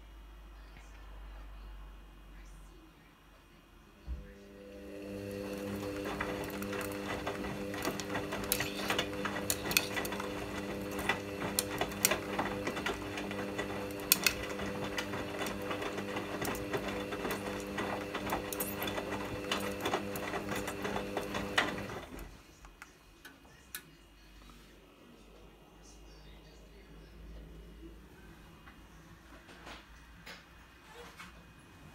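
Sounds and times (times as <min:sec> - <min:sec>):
washing machine motor hum: 0:04.0 - 0:31.9.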